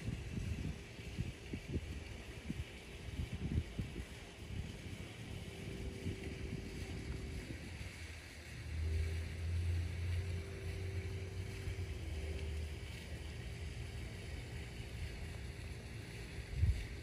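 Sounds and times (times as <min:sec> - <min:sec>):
faint steady hum: 0:00.0 - 0:17.0
wind rumble on microphone: 0:00.0 - 0:17.0.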